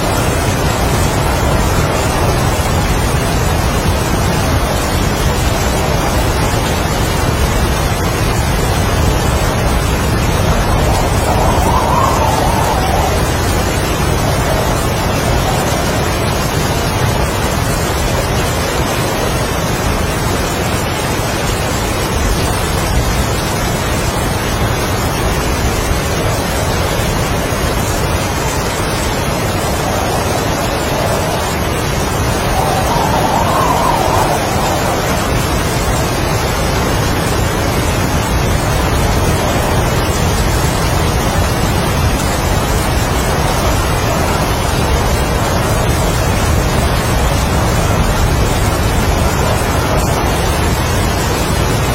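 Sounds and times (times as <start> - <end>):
heavy rain: 0.0 - 51.9
strong wind: 0.0 - 51.9.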